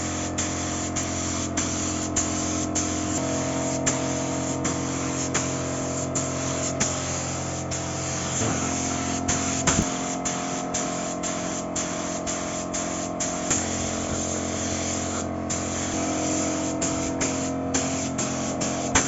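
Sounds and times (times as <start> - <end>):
spray paint hissing: 0.0 - 19.0.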